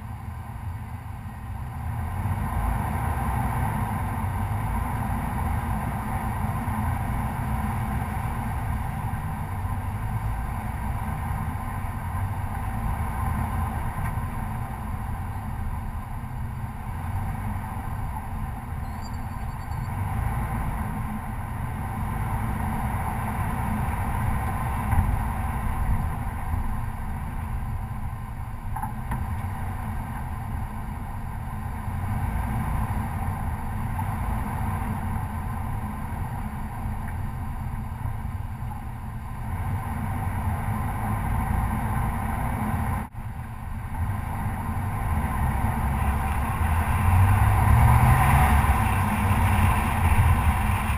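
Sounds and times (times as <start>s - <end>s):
truck engine and tyres rumbling: 0.0s - 50.9s.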